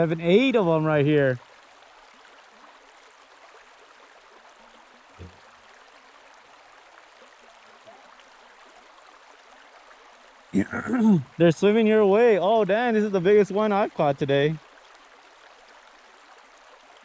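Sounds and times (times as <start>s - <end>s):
flowing canal water: 0.0s - 17.0s.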